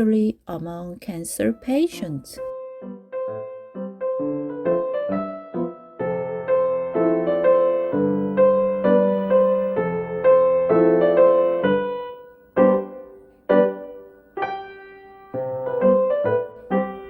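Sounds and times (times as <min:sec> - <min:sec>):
gentle piano music: 0:01.4 - 0:17.0.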